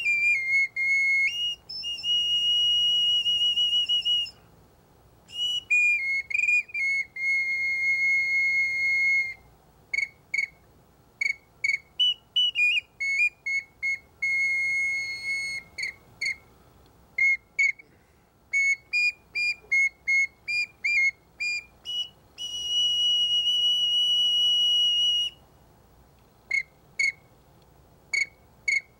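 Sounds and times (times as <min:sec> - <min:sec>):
bird flute whistling: 0:00.0 - 0:04.5, 0:05.3 - 0:10.6, 0:11.2 - 0:16.5, 0:17.2 - 0:17.9, 0:18.5 - 0:25.4, 0:26.5 - 0:27.2, 0:28.2 - 0:28.9.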